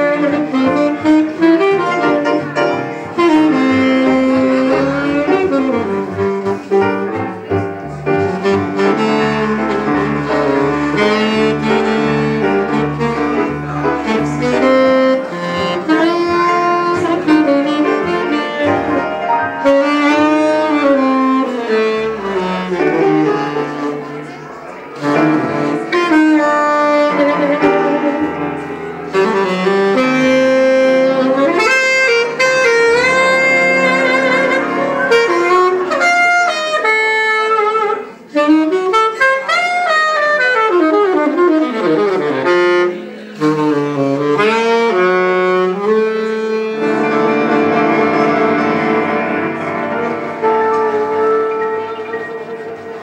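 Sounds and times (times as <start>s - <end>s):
double bass: 0.0s - 53.0s
piano: 0.0s - 53.0s
saxophone playing jazz: 0.0s - 53.0s.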